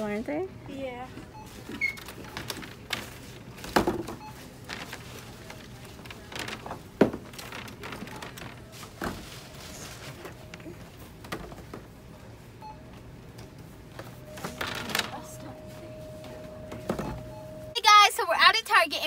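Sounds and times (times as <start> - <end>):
shopping items thudding and knocking: 1.4 - 12.2, 12.9 - 17.7.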